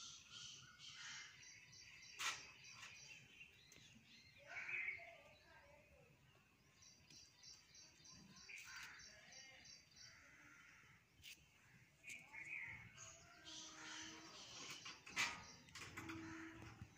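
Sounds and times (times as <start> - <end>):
bird chirping: 0.0 - 16.9.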